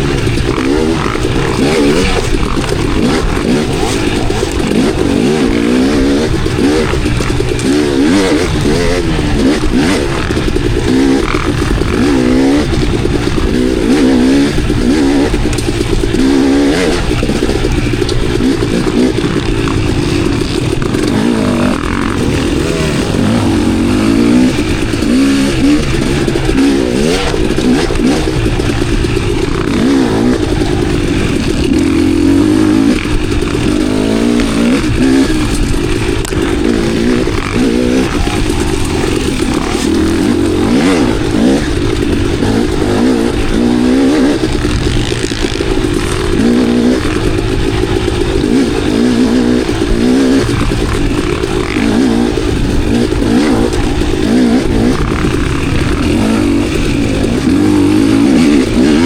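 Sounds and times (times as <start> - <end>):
dirt bike engine revving: 0.0 - 59.0
knocks and clatter: 0.0 - 59.0.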